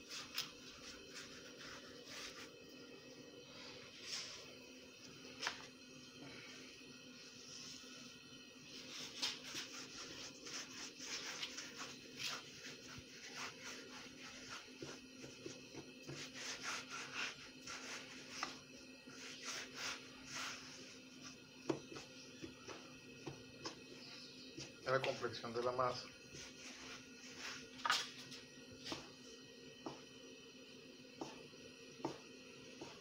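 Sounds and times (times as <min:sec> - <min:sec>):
dough rubbing on countertop: 0:00.0 - 0:02.9, 0:03.5 - 0:04.6, 0:06.2 - 0:30.1, 0:31.2 - 0:33.0
faint steady hum: 0:00.0 - 0:33.0.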